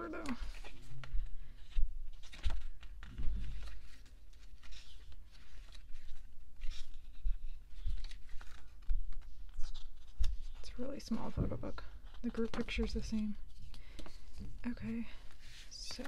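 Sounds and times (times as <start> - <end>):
pages turning: 0.0 - 16.0.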